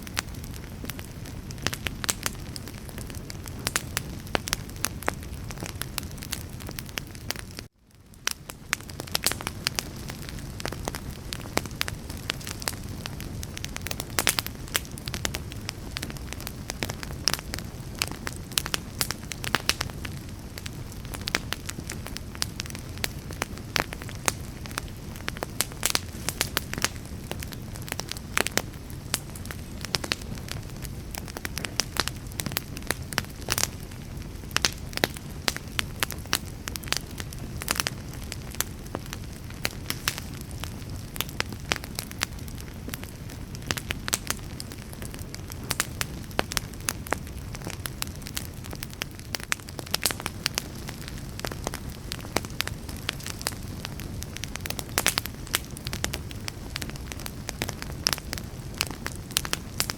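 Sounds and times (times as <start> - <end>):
fire crackling and popping: 0.0 - 59.9
wood fire rumbling: 0.0 - 59.9.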